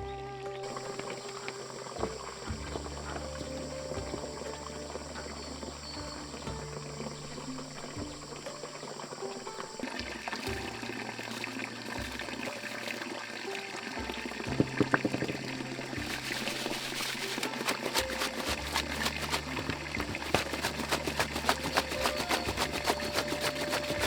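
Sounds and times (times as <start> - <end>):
water pouring and splashing: 0.0 - 24.0.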